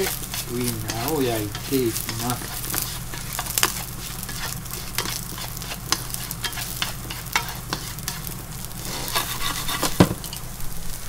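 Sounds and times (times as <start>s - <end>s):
sausages sizzling in oil: 0.0s - 11.0s.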